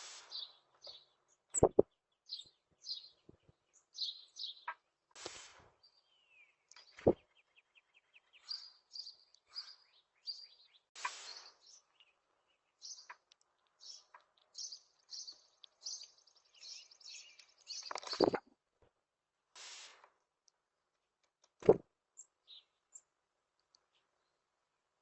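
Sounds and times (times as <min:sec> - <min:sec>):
small birds chirping: 0:00.0 - 0:18.5, 0:21.2 - 0:24.9.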